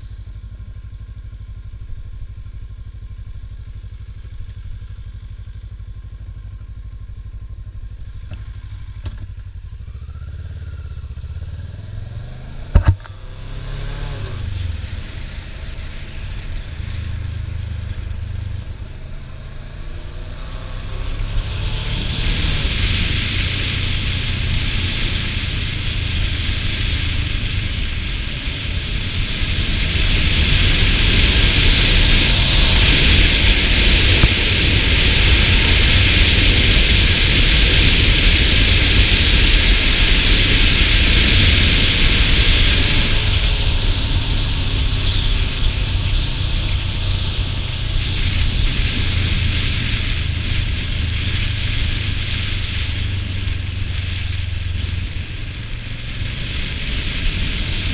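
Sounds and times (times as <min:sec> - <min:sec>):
motorcycle engine drone: 0:00.0 - 0:57.9
wind rushing over microphone: 0:10.6 - 0:57.9.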